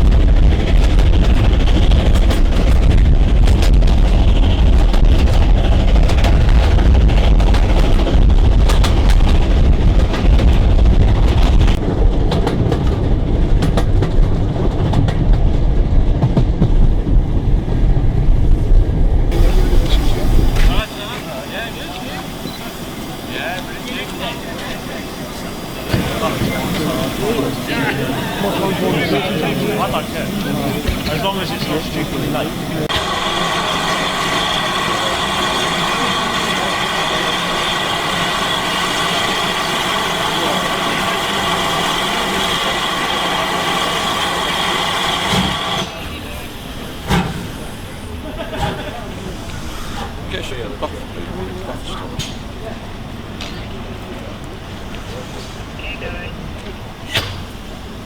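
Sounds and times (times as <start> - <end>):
wheels clicking over rail joints: 0.0 - 17.2, 19.3 - 55.7
train rumbling on rails: 0.0 - 58.0.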